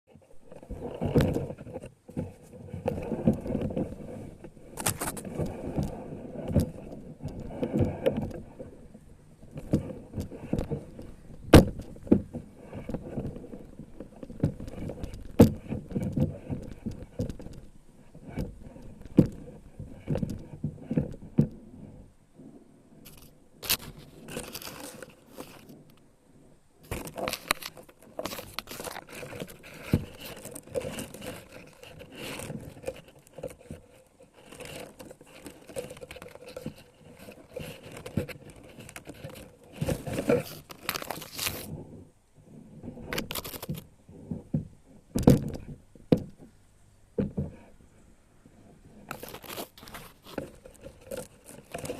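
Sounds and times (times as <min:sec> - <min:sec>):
foliage rustling: 0:00.2 - 0:46.6, 0:47.5 - 0:51.9.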